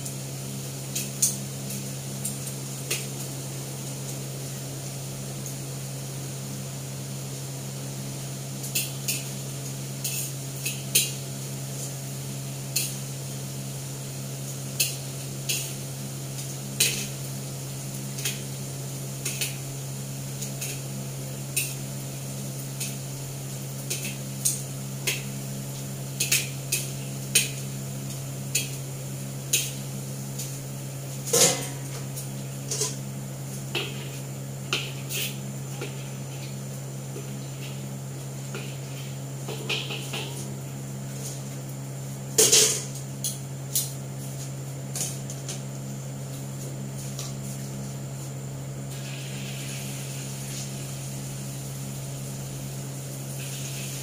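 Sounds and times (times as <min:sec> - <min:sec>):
steady low hum: 0:07.1 - 0:54.0.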